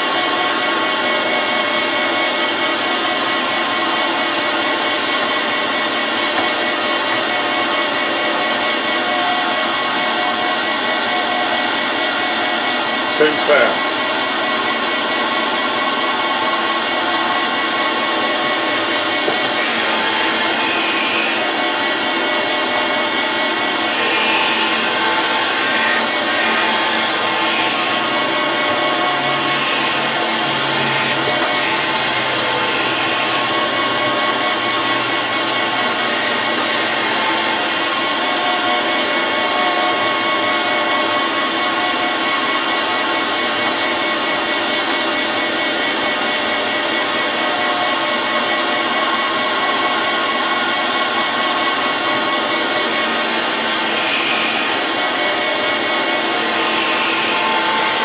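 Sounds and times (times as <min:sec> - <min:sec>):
surface grinder grinding metal: 0:00.0 - 0:58.0.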